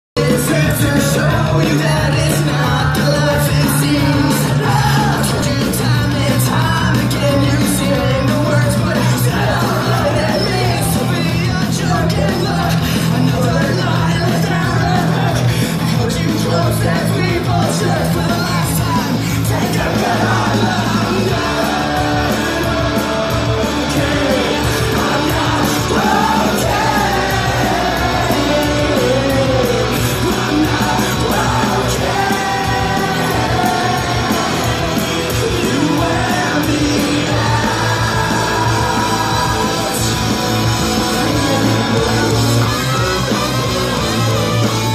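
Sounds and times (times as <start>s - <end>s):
loud club music: 0.2s - 44.9s
person yelling and singing: 0.2s - 44.9s
steady bass line: 0.2s - 44.9s.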